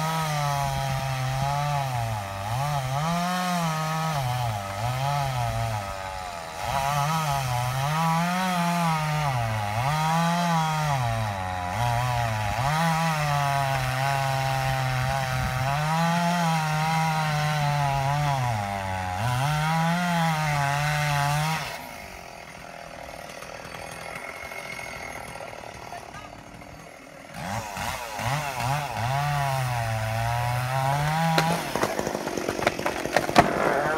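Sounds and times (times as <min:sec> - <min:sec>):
chainsaw cutting a tree: 0:00.0 - 0:33.9.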